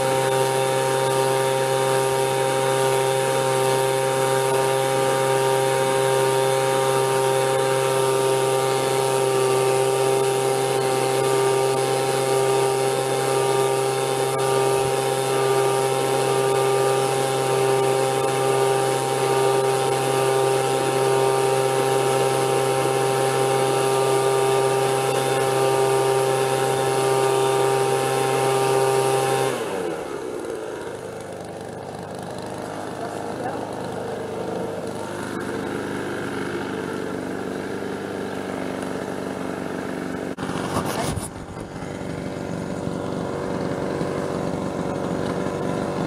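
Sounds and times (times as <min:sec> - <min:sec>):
leaf blower whining: 0:00.0 - 0:46.0.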